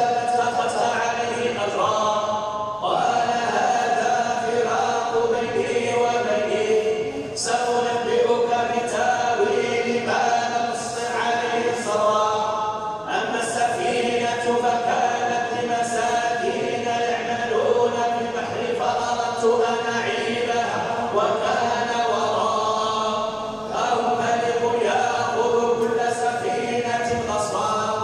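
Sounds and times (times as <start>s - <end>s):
person chanting recitation: 0.0s - 28.0s.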